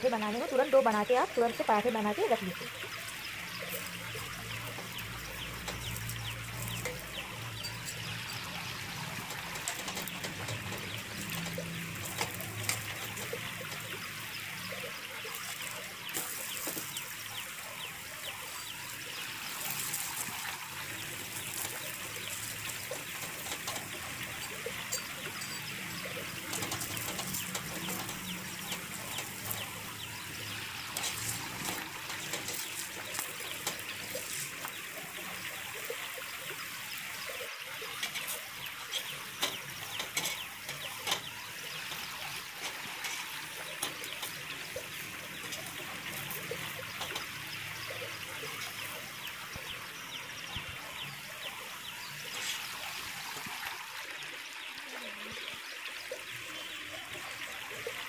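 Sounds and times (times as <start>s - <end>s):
oil sizzling and popping: 0.0s - 58.0s.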